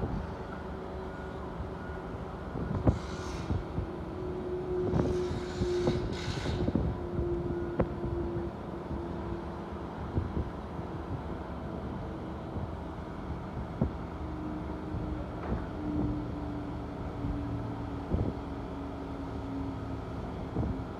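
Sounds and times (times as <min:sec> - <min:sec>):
excavator whine: 0:00.0 - 0:20.9.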